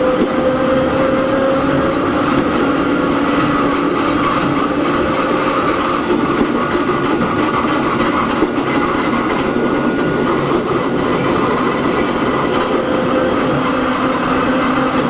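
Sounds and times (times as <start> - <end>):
clickety-clack of rail joints: 0.0 - 15.0
train wheels rumbling on rail: 0.0 - 15.0.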